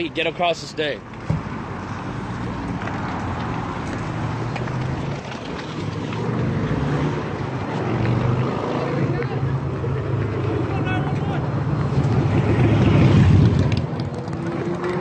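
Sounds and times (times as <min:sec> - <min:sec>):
road noise: 0:00.0 - 0:15.0
vehicle engines humming: 0:00.0 - 0:15.0.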